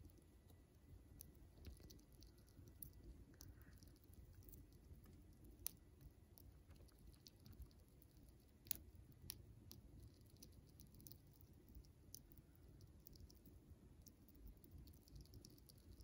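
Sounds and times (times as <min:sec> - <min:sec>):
chipmunk gnawing nut: 0:00.0 - 0:16.0.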